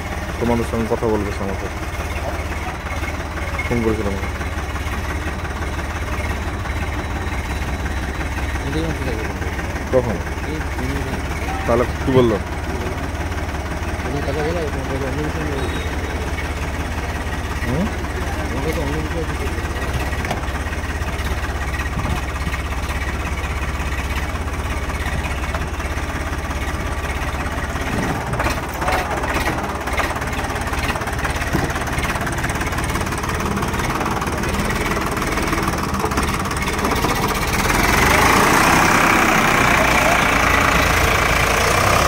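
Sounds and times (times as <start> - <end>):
tractor diesel engine rumble: 0.0 - 42.0.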